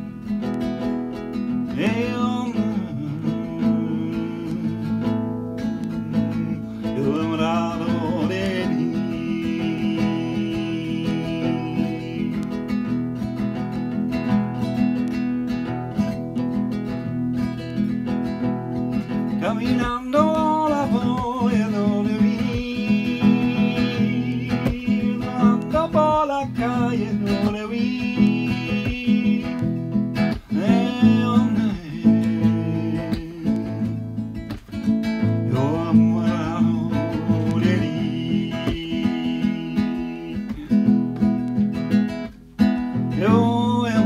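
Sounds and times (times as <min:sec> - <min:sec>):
acoustic guitar strummed and picked: 0:00.0 - 0:44.0
man singing: 0:01.4 - 0:13.4, 0:19.1 - 0:42.2, 0:42.8 - 0:44.0.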